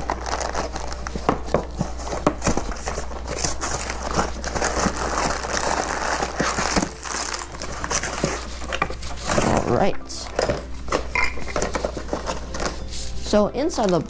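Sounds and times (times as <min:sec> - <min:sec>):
cardboard flap tearing: 0:00.0 - 0:12.8
cardboard scraping and crinkling: 0:00.0 - 0:14.0.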